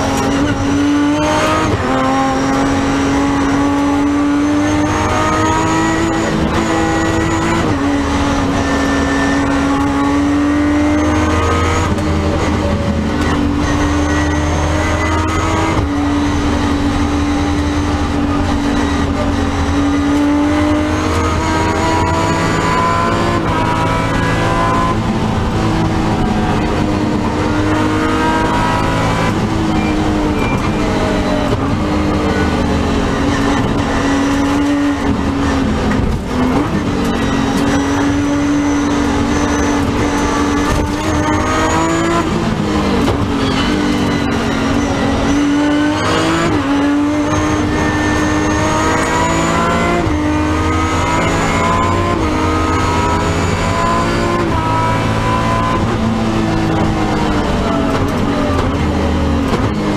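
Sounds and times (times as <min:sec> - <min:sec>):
car engine revving hard: 0:00.0 - 0:59.9
tyre and road noise: 0:00.0 - 0:59.9.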